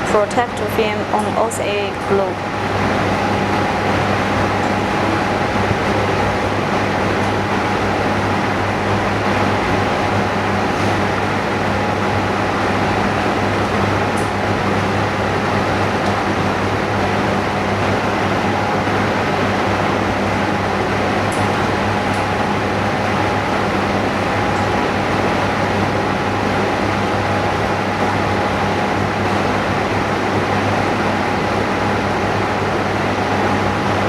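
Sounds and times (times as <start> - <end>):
machinery hum and hiss: 0.0 - 34.0.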